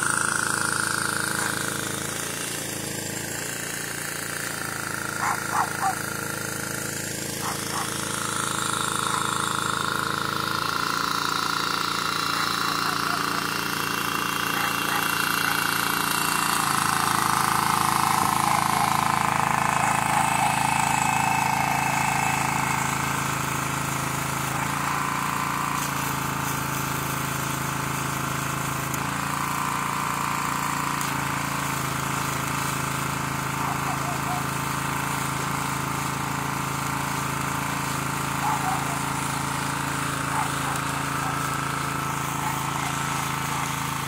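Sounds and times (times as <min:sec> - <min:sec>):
engine hum: 0:00.0 - 0:44.0
welding arc crackling and hissing: 0:04.5 - 0:11.4, 0:14.6 - 0:34.4, 0:35.0 - 0:44.0.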